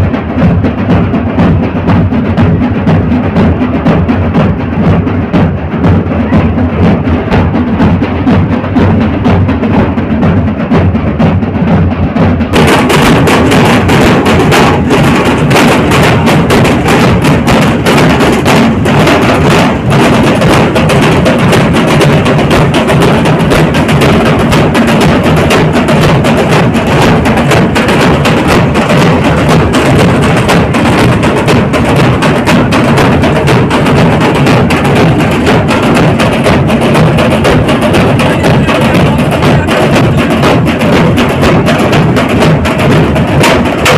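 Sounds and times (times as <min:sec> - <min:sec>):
drum band playing: 0:00.0 - 0:43.9.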